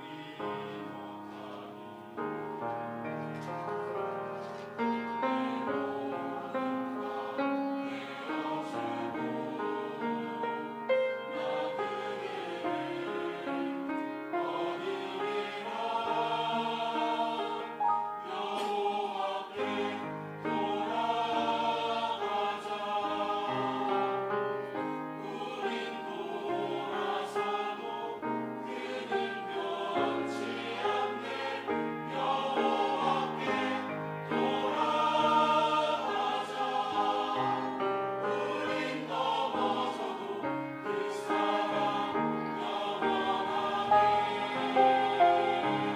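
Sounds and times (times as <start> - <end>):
church choir singing: 0.0 - 45.9
musical accompaniment: 0.0 - 45.9.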